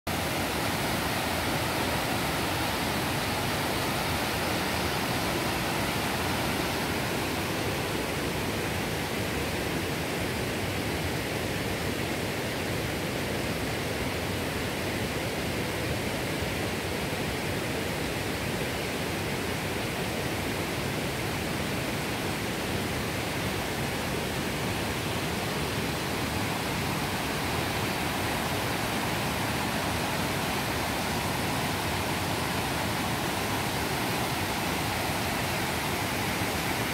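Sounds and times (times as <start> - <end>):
river water rushing over rocks: 0.1 - 36.9.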